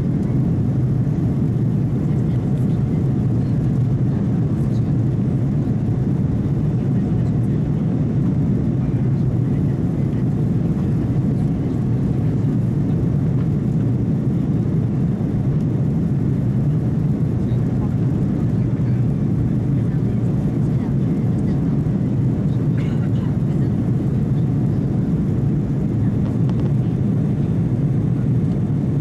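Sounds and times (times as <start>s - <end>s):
jet engines and airflow in cabin: 0.0s - 29.0s.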